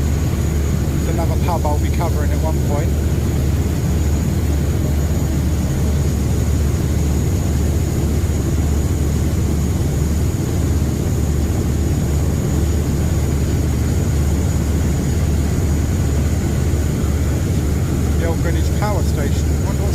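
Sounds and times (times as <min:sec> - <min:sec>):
boat engines droning: 0:00.0 - 0:19.9.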